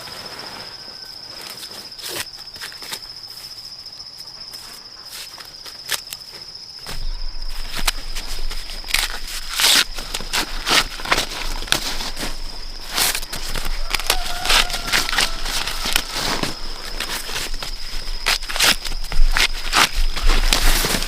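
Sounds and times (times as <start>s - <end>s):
high insect drone: 0.0s - 21.0s
rustling and scuffing: 0.0s - 21.0s.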